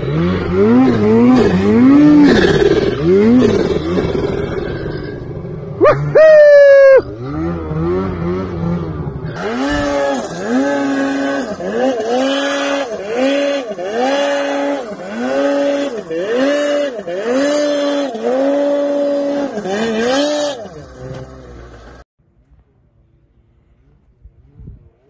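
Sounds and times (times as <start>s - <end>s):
snowmobile engines revving: 0.0s - 22.0s
snowmobile revving in quick blips: 0.0s - 22.0s.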